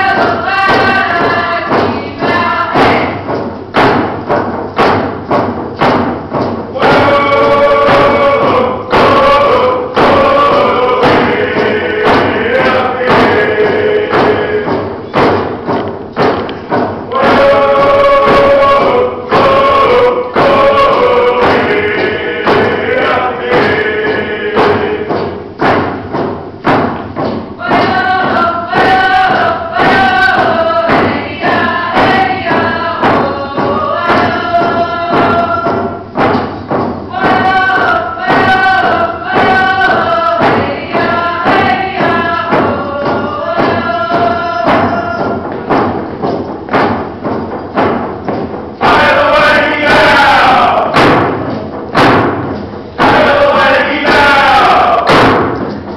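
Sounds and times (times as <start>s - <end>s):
group chanting a song: 0.0s - 55.9s
steady drum beat: 0.0s - 55.9s.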